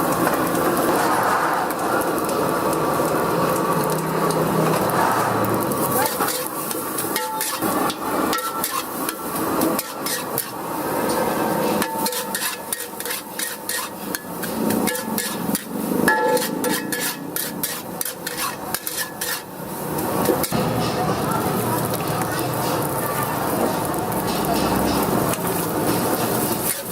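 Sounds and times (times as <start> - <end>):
metal spatula scraping a wok: 0.5 - 1.8, 3.9 - 26.9.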